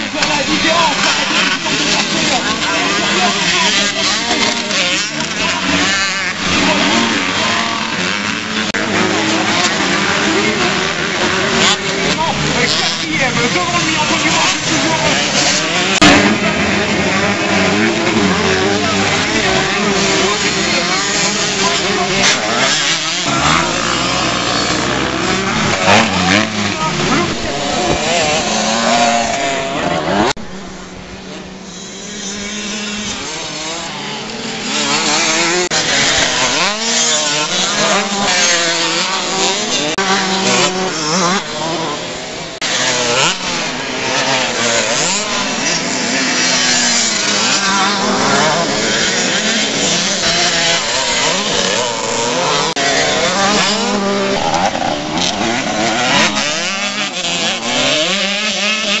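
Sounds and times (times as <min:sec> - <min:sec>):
motocross bikes revving: 0:00.0 - 0:59.0.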